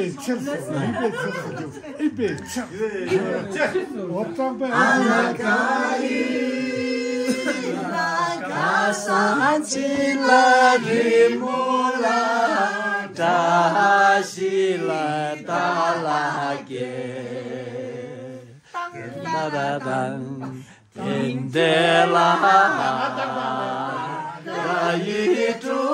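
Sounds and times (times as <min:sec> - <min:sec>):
group singing unaccompanied: 0:03.0 - 0:25.9.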